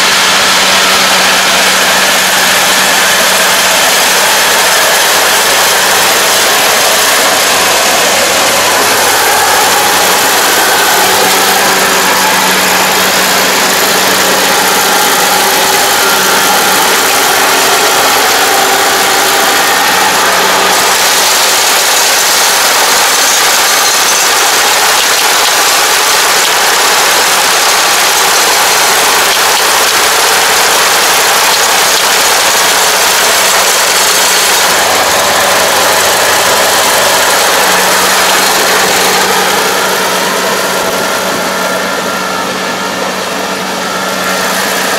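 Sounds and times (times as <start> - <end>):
combine harvester running: 0.0 - 44.9.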